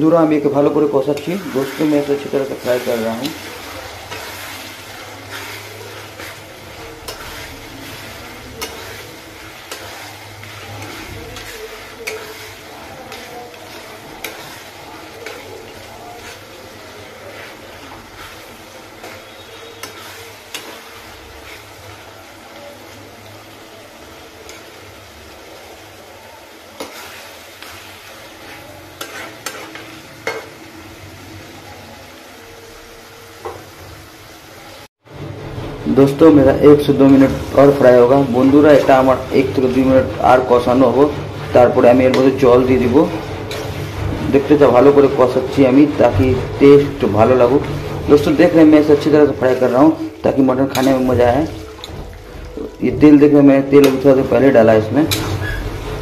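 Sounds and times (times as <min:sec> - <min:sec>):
meat sizzling in oil: 0:00.0 - 0:56.0
metal spoon scraping pan: 0:00.1 - 0:22.0, 0:26.8 - 0:30.7, 0:35.4 - 0:56.0.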